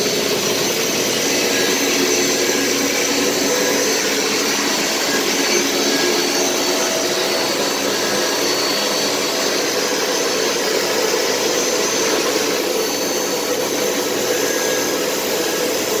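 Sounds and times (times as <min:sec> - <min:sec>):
machine whir: 0:00.0 - 0:16.0.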